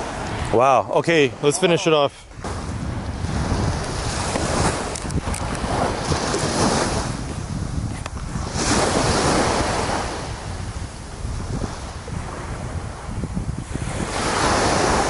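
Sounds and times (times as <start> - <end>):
waves washing on a beach: 0.0 - 15.0
wind rumbling on microphone: 0.0 - 15.0.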